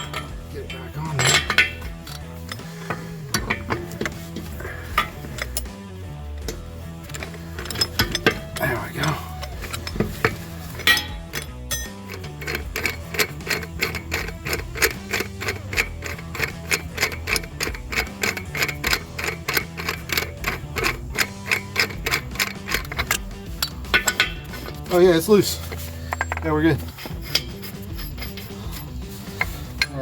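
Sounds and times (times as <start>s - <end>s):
background music: 0.0s - 30.0s
ratchet clicking: 1.2s - 5.8s, 6.4s - 25.0s, 25.6s - 30.0s.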